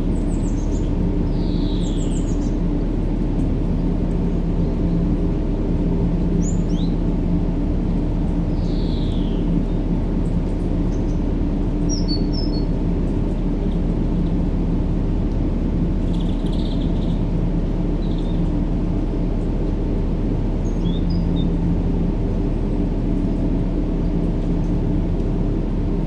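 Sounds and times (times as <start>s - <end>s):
white noise hiss and rumble: 0.0s - 26.0s.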